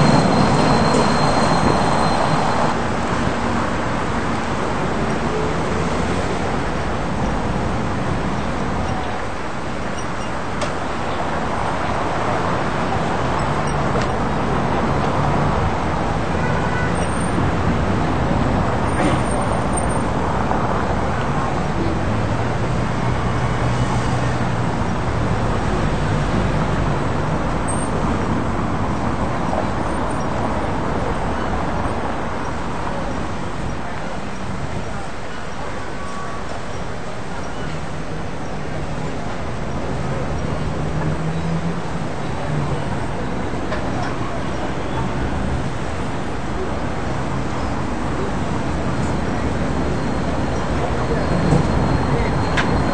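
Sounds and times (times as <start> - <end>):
cars passing: 0.0 - 52.9.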